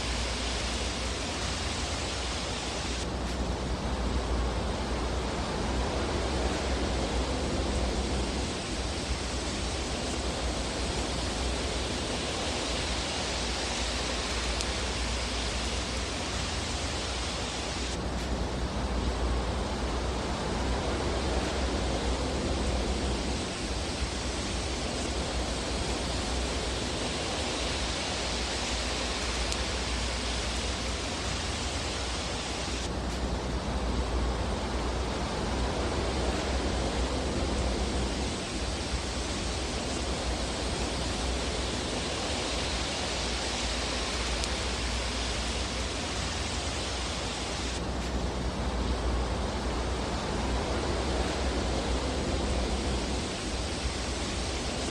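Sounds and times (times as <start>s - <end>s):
fireplace fire hissing: 0.0s - 54.9s.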